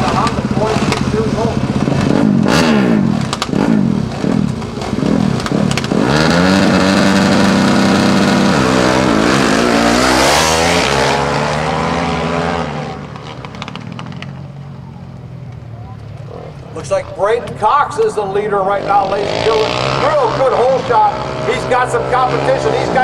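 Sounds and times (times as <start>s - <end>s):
racing motorcycles revving: 0.0s - 23.0s.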